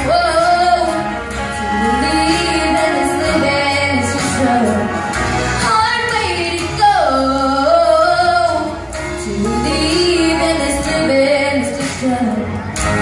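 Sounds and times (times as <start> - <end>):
girl singing into a microphone: 0.0 - 1.0, 1.8 - 4.9, 5.6 - 12.6
instrumental accompaniment: 0.0 - 13.0.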